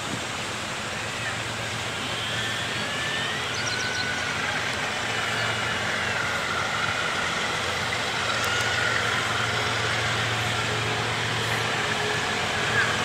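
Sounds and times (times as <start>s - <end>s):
distant diesel train engine hum: 0.0s - 13.0s
outdoor hiss: 0.0s - 13.0s.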